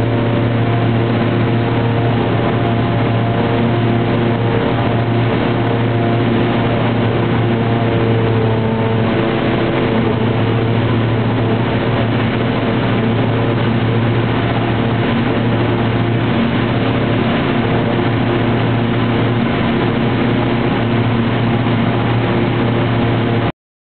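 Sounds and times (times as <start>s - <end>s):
airliner engine roar in cabin: 0.0s - 23.5s.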